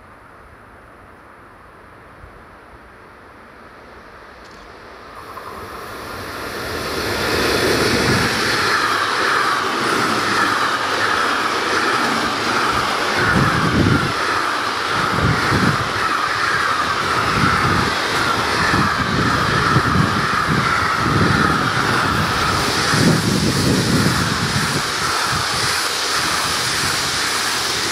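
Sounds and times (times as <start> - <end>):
freight train passing: 0.2 - 27.9.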